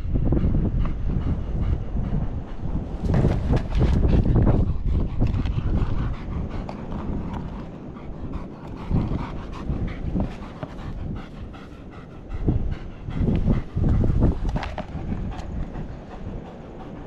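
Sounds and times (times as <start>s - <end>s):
dog panting: 0.0s - 17.0s
steady low rumble: 0.0s - 17.0s.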